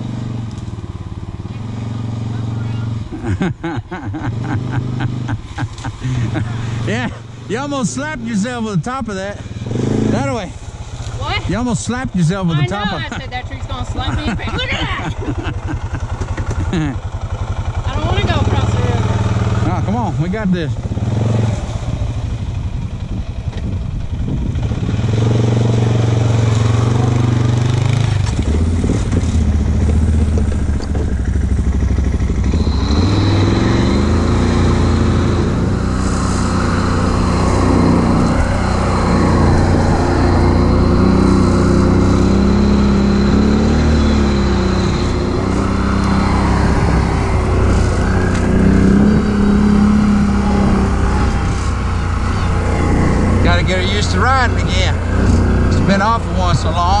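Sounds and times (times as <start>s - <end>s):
atv engines revving: 0.0s - 57.0s.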